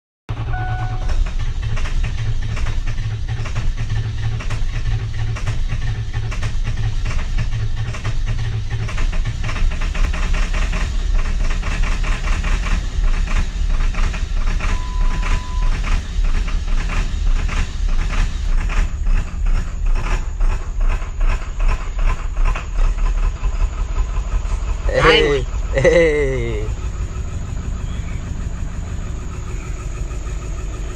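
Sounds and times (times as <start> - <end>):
diesel engine knocking: 0.3 - 24.9, 25.5 - 30.9.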